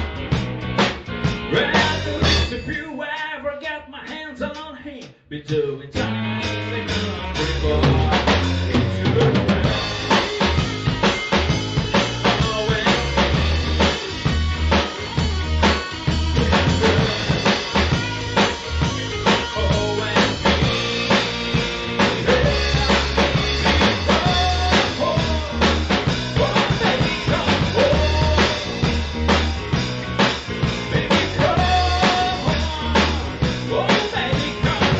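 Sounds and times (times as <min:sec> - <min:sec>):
blues-rock band playing: 0:00.0 - 0:02.8, 0:06.0 - 0:34.9
drum kit beat: 0:00.0 - 0:34.9.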